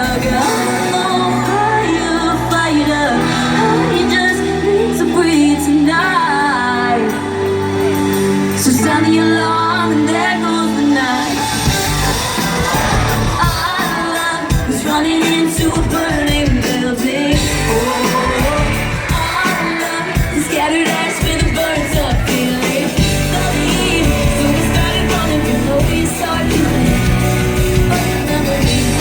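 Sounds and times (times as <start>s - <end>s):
live pop band playing: 0.0s - 29.0s
person singing: 0.0s - 29.0s.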